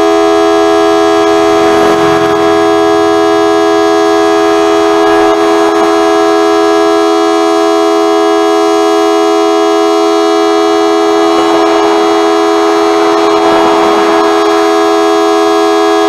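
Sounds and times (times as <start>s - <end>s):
two-tone warning siren: 0.0s - 16.0s.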